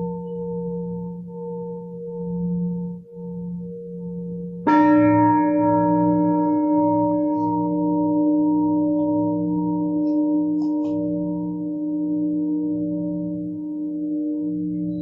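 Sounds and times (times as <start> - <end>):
lower bowl humming: 0.0 - 15.0
singing bowl ringing: 0.0 - 15.0.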